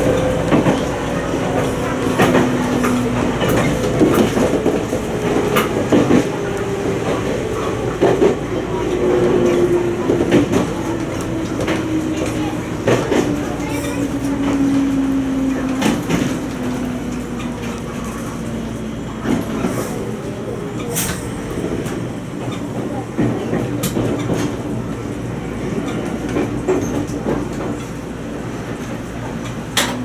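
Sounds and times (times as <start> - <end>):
train rumble: 0.0 - 30.0
train wheels clicking over joints: 0.0 - 30.0.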